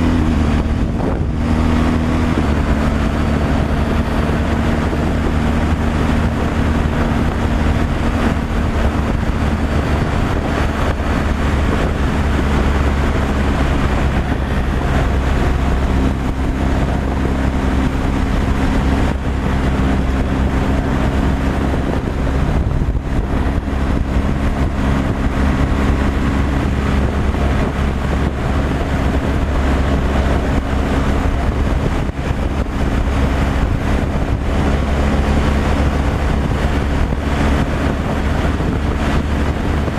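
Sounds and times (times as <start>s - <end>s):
road and wind noise: 0.0s - 39.9s
truck diesel engine drone: 0.0s - 39.9s.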